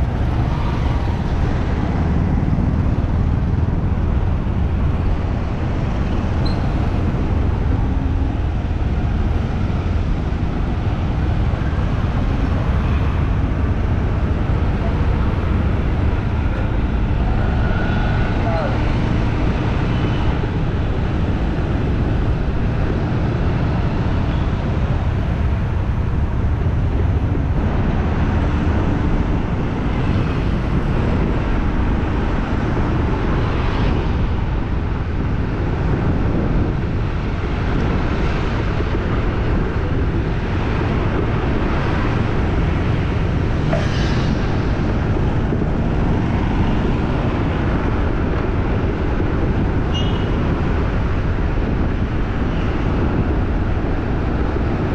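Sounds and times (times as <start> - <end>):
low rumble of traffic: 0.0 - 54.9.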